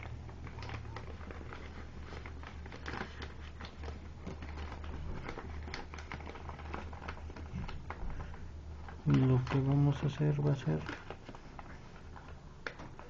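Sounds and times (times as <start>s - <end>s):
paper rustling and crinkling: 0.0s - 13.0s
steady low hum: 0.0s - 13.0s.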